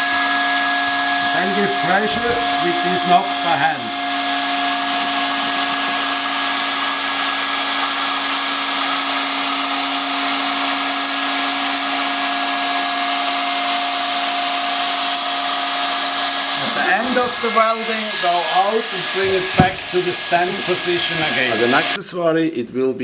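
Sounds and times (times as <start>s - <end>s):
motor hum: 0.0s - 21.9s
hot-air blower rushing: 0.0s - 22.0s.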